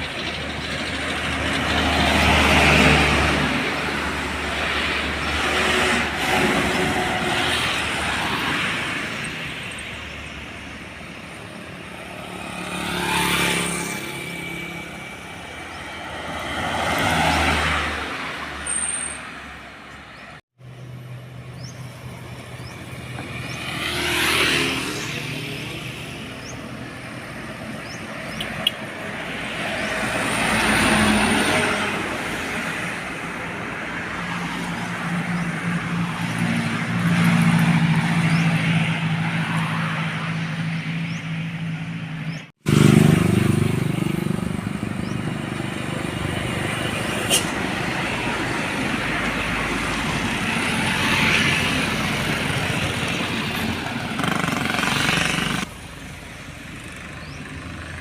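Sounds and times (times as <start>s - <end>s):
diesel trucks driving past: 0.0s - 58.0s.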